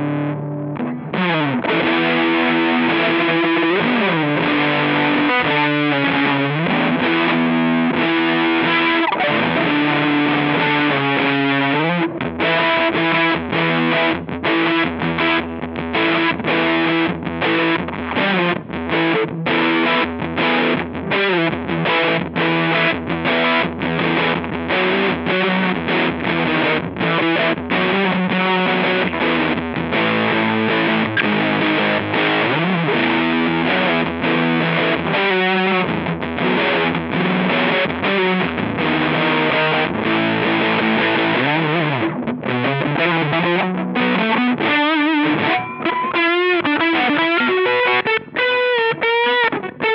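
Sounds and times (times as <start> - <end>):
fuzzy distorted electric guitar: 0.0 - 49.9.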